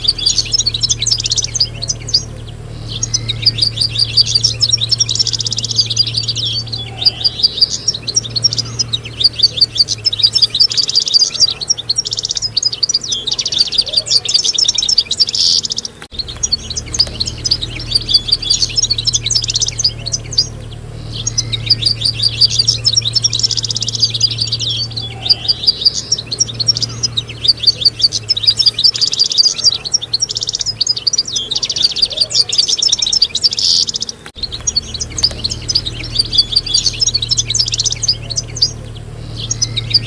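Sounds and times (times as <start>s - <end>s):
goldfinches twittering: 0.0s - 40.0s
steady low hum: 0.0s - 40.0s.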